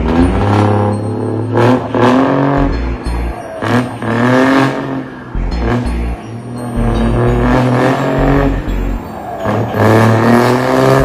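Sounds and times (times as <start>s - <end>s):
car engine revving: 0.0s - 11.0s
music with deep bass: 0.0s - 11.0s.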